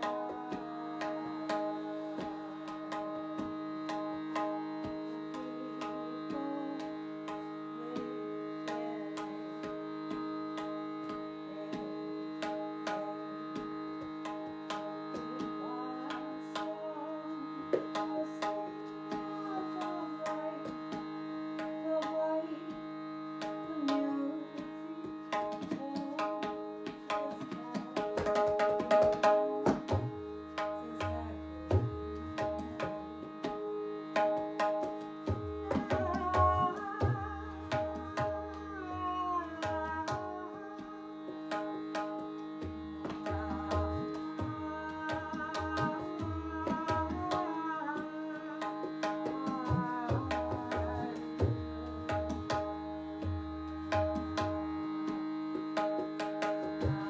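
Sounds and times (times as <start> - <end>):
tabla playing: 0.0 - 17.0, 17.7 - 21.0, 25.0 - 57.0.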